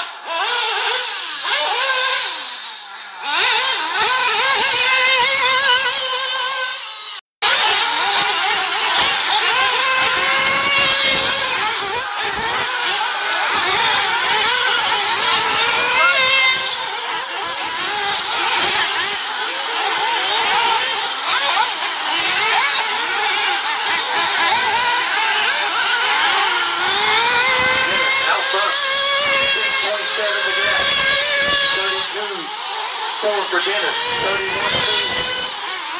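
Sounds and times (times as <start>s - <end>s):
toy race car motors whining: 0.0s - 35.9s.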